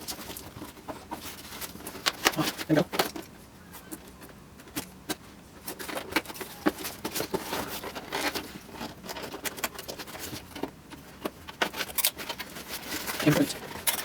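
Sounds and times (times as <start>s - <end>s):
packaging rustling and crinkling: 0.0s - 4.0s, 5.6s - 14.0s.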